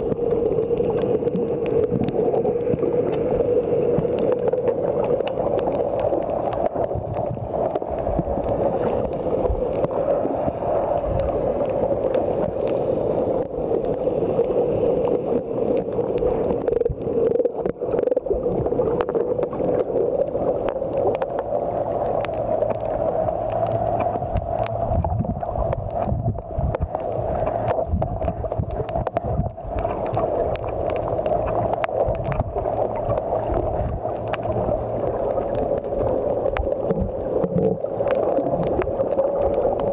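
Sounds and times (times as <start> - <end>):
underwater rushing water: 0.0 - 39.9.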